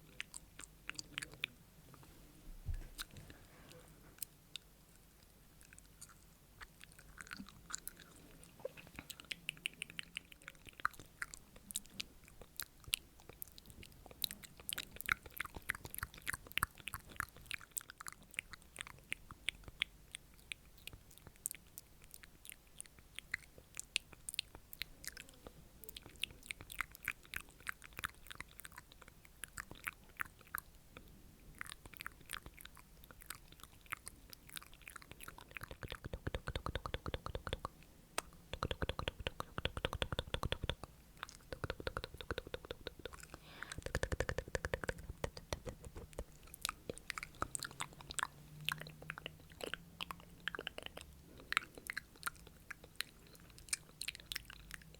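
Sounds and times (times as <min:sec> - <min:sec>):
wet mouth clicks and smacks: 0:04.2 - 0:54.9.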